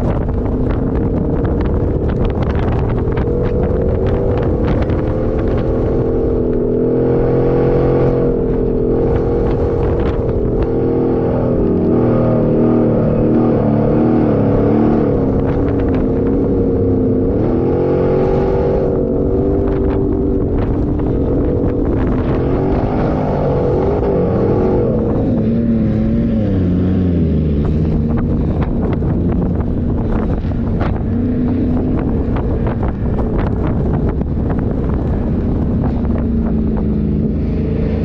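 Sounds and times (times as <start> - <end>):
engine running under load: 0.0 - 38.0.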